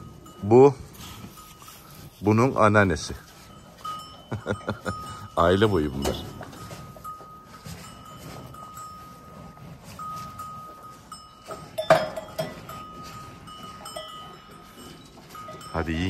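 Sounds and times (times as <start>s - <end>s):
cattle munching feed: 0.0s - 16.0s.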